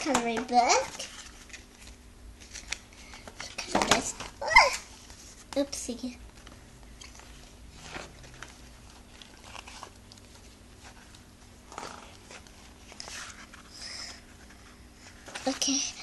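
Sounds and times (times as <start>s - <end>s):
low steady hum: 0.0s - 16.0s
paper and cardboard rustling: 0.0s - 16.0s.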